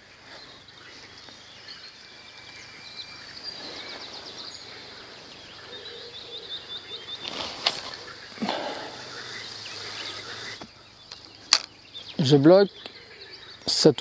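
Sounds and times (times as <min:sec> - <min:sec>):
faint steady background noise: 0:00.0 - 0:14.0
small birds chirping: 0:00.0 - 0:14.0.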